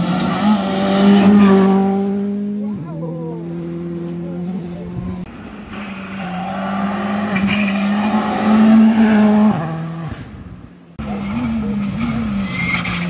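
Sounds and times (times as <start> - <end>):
rally car engine high revs: 0.0 - 4.7, 5.3 - 10.4, 11.0 - 13.0.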